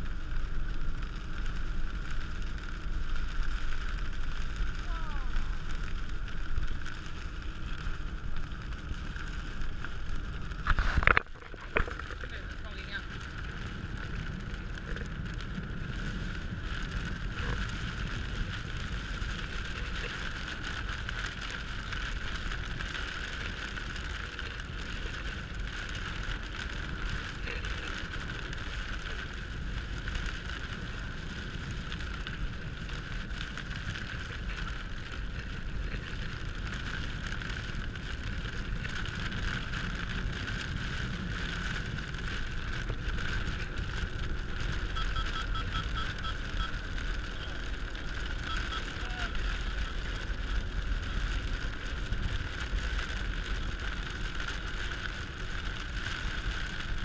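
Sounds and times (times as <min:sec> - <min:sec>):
low car rumble: 0:00.0 - 0:57.0
rain on windscreen: 0:00.0 - 0:57.0
tyres hissing on wet road: 0:00.0 - 0:57.0.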